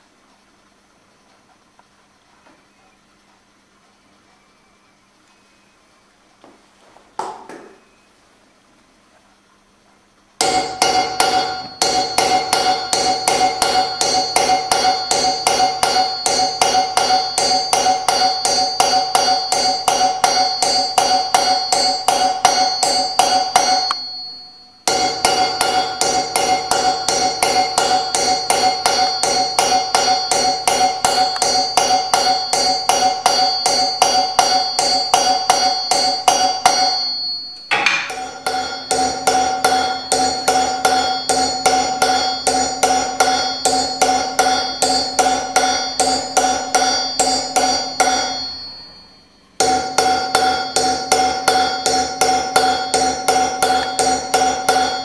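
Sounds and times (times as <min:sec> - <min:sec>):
hammer blows on steel: 0:10.4 - 0:55.0.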